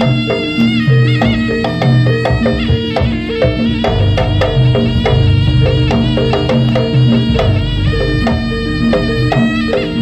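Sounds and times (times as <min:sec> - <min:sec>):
hand drums: 0:00.0 - 0:10.0
reed pipe melody: 0:00.0 - 0:10.0
struck gamelan percussion: 0:00.0 - 0:10.0.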